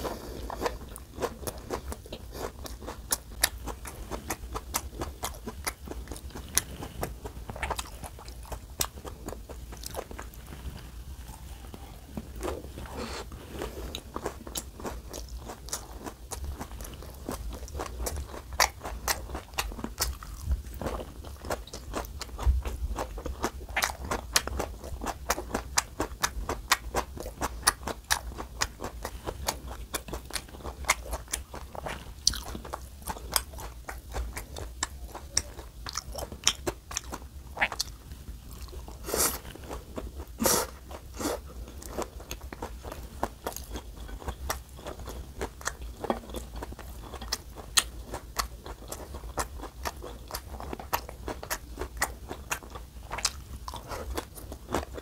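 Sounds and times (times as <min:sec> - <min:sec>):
crunchy chewing of raw vegetables: 0:00.0 - 0:55.0.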